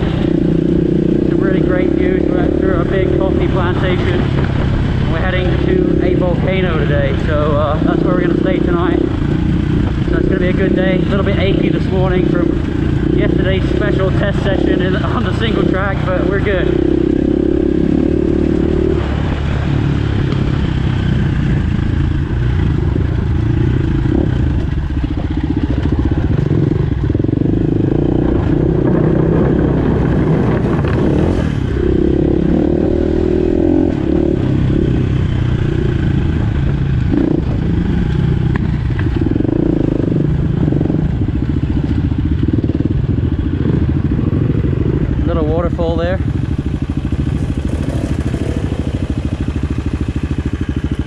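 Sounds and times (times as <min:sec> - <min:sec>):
dirt bike engine revving: 0:00.0 - 0:51.0.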